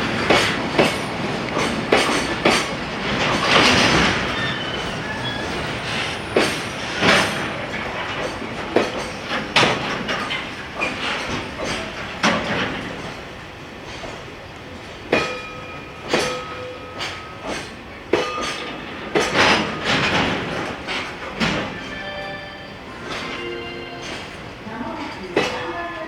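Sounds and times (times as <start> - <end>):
train wheels clacking on rail joints: 0.0 - 26.0.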